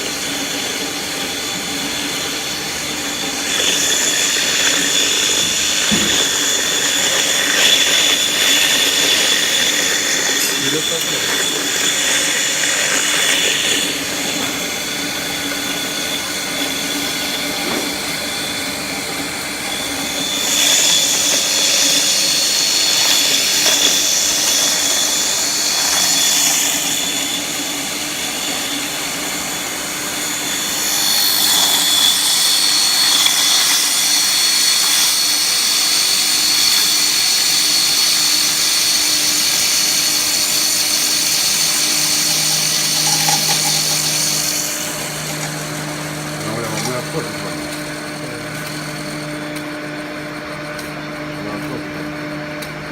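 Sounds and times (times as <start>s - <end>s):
grinder whining and grinding: 0.0s - 52.9s.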